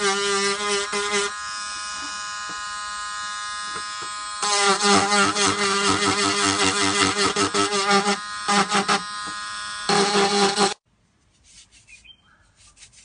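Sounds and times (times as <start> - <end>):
rotary tool buzzing: 0.0 - 10.8.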